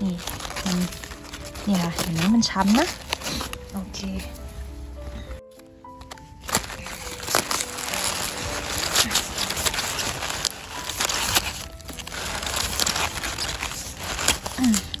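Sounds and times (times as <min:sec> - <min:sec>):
knife crunching through cabbage: 0:00.0 - 0:03.7, 0:06.0 - 0:15.0.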